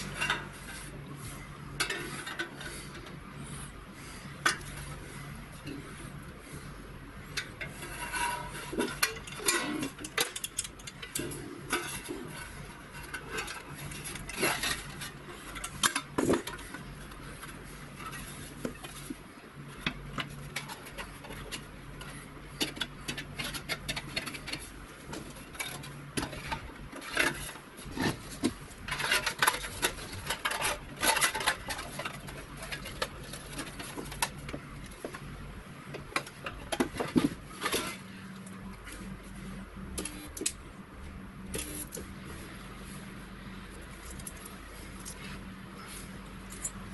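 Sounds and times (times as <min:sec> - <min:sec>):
metal panels clinking and scraping: 0:00.0 - 0:46.9.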